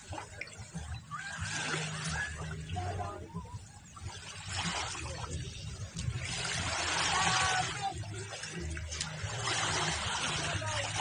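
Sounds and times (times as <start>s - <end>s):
seawater splashing and trickling: 0.0s - 11.0s.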